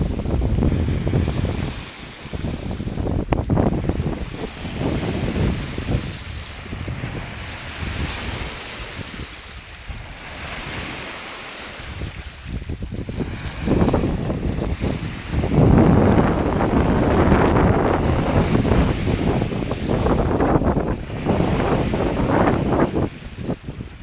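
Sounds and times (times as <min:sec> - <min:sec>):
waves washing in: 0:00.0 - 0:24.0
wind buffeting microphone: 0:00.0 - 0:24.0.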